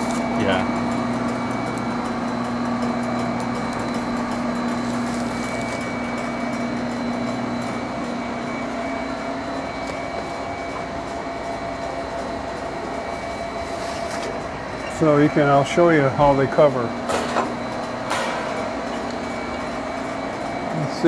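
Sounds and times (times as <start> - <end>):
machine motors humming: 0.0 - 21.0.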